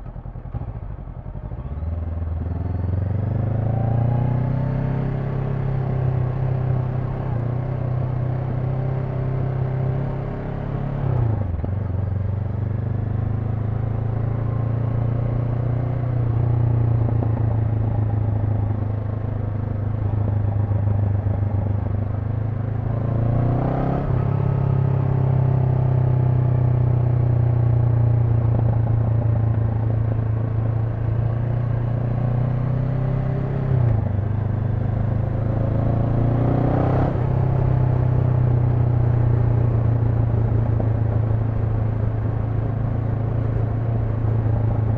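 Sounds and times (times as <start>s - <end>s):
motorcycle engine cruising: 0.0s - 44.9s
road and wind noise: 0.0s - 44.9s.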